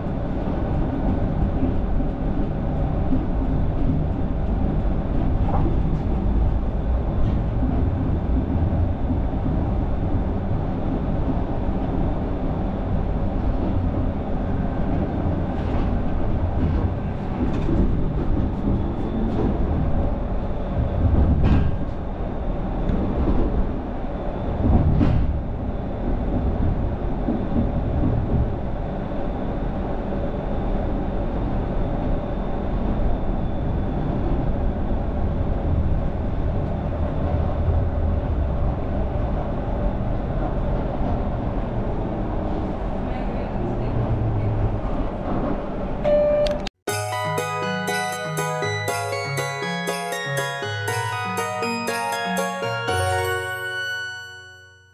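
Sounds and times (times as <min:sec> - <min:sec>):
tram wheels rumbling on rail: 0:00.0 - 0:46.0.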